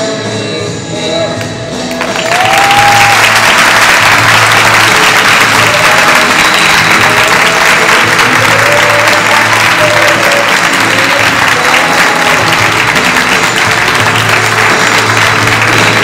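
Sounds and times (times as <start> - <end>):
background music: 0.0 - 16.0
audience applauding: 1.9 - 16.0.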